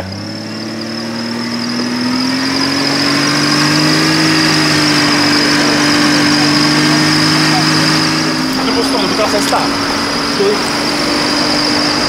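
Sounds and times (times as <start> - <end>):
high whine: 0.0 - 12.0
winch motor droning under load: 0.0 - 12.0.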